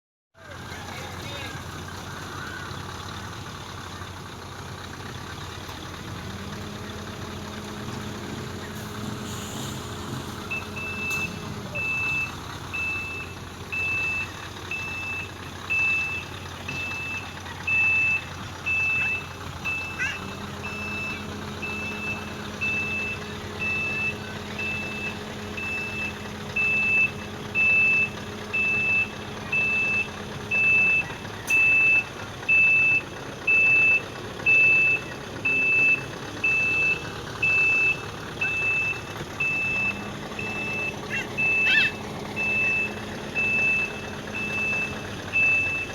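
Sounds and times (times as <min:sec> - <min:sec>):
heavy diesel engine running: 0:00.4 - 0:45.9
reversing alarm beeping: 0:06.8 - 0:45.9.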